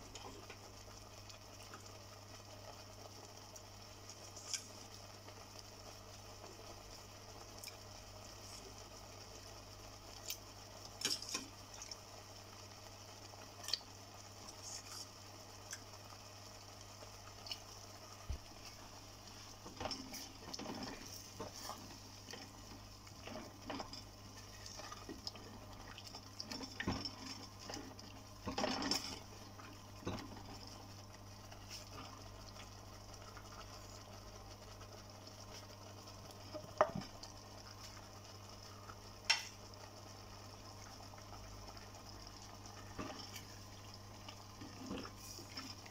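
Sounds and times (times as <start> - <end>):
faint simmering: 0.0 - 45.9.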